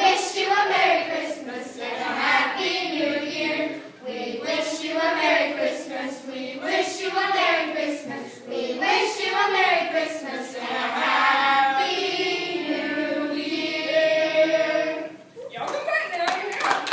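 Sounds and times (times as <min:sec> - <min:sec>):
group of voices singing: 0:00.0 - 0:15.3.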